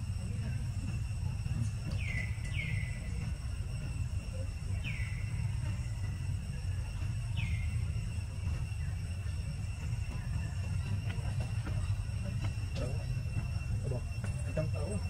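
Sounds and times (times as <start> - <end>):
high-pitched hum: 0.0 - 15.0
steady low rumble: 0.0 - 15.0.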